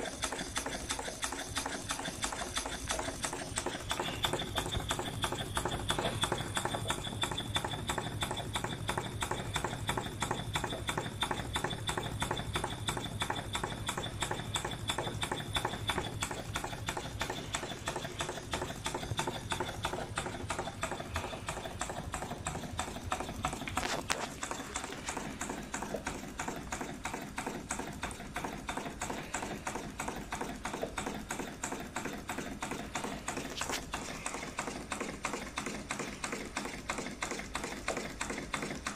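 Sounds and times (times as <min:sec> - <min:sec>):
steam engine model clattering: 0:00.0 - 0:38.9.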